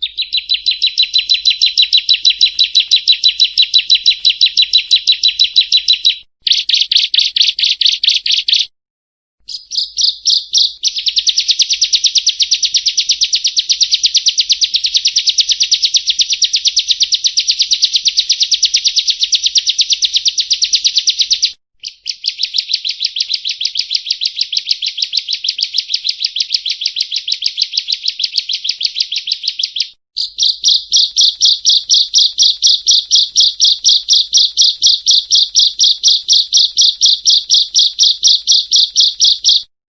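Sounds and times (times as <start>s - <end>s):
bird singing rapid high notes: 0.0s - 8.7s, 9.4s - 39.7s.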